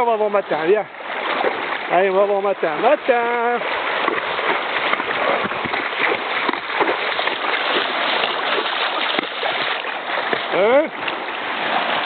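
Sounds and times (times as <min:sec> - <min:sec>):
seawater splashing around legs: 0:00.0 - 0:12.0.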